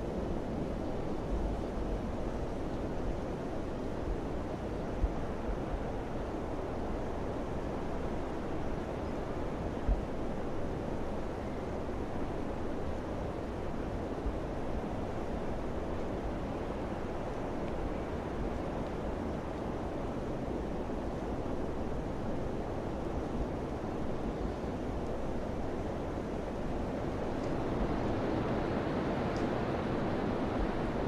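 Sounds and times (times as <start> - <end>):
rushing wind: 0.0 - 31.0.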